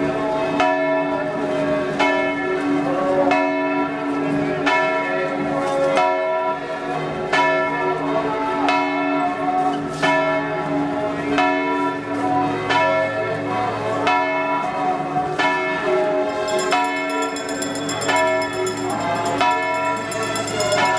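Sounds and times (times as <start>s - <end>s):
church bells pealing: 0.0s - 20.9s.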